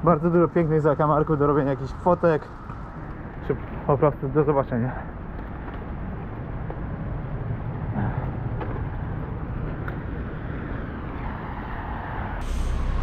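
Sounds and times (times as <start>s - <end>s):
distant traffic rumble: 0.0s - 13.0s.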